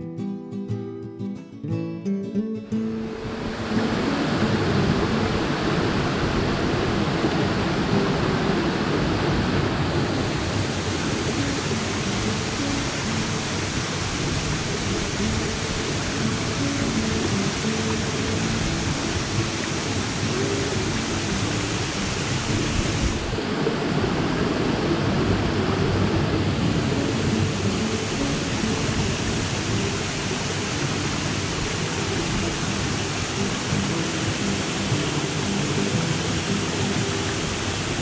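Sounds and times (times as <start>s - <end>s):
waterfall rushing: 2.8s - 38.0s.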